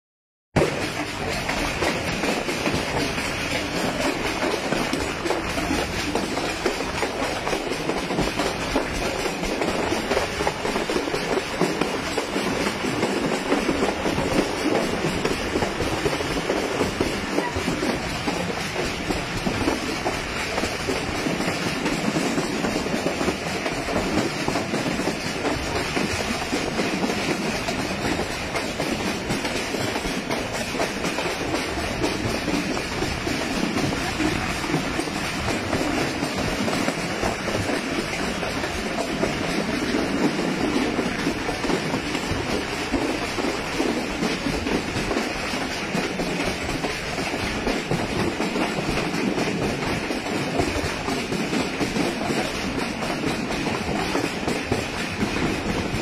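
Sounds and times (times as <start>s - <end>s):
clickety-clack wheel clatter: 0.6s - 56.0s
wheel-on-rail rushing noise: 0.6s - 56.0s.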